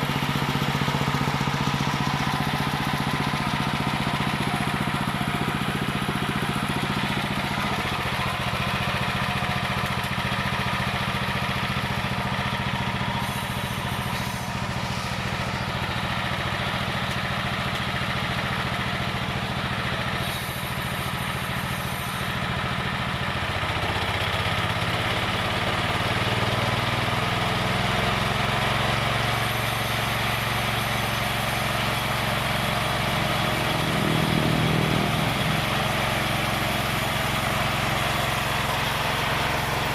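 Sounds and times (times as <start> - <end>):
sawing machine motor running: 0.0 - 39.9.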